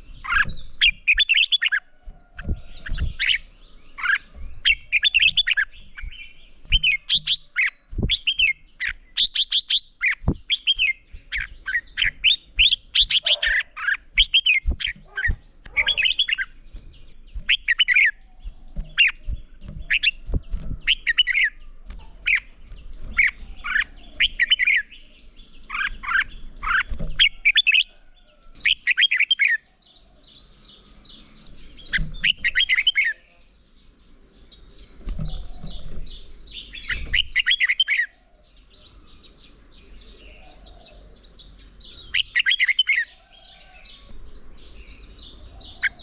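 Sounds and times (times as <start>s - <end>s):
high bird twittering: 0.0s - 40.9s
birds singing warbling notes: 0.0s - 46.0s.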